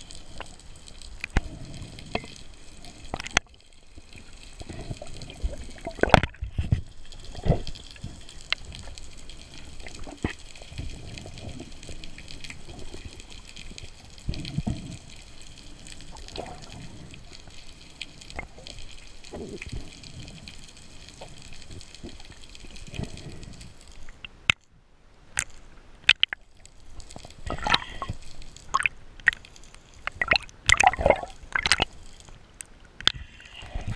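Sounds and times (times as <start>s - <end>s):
sea water gurgling: 0.0s - 24.6s, 25.2s - 33.9s.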